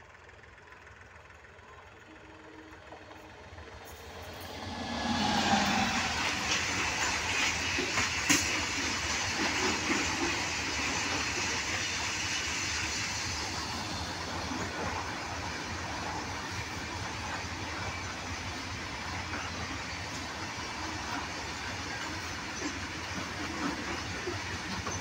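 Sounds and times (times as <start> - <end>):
train wheels rumbling on rail: 0.4 - 25.0.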